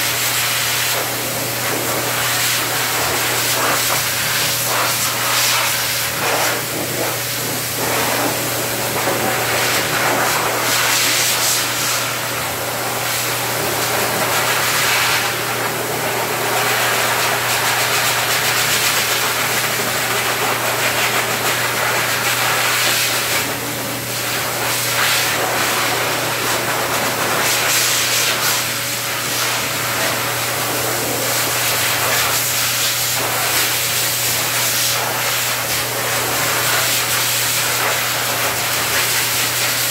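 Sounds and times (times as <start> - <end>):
pet dryer blowing air: 0.0 - 39.9.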